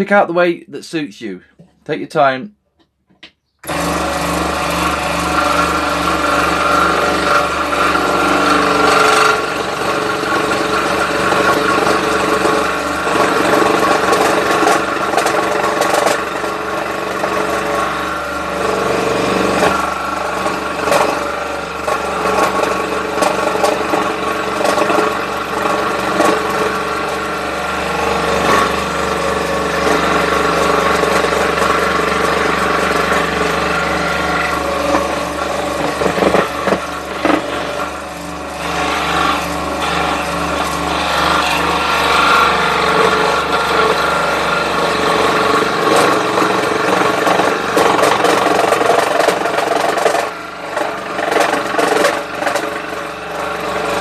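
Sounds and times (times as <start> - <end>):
scroll saw cutting wood: 3.6 - 54.0.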